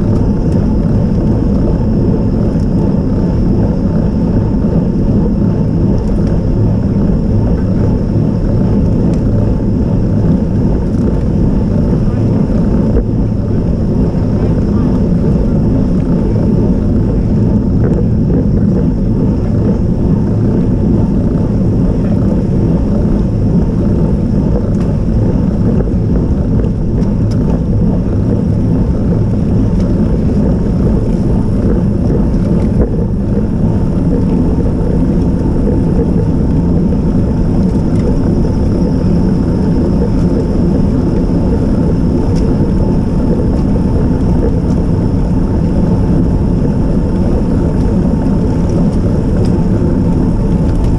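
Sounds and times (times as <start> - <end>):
road noise: 0.0 - 50.9
wind rumble: 0.0 - 50.9.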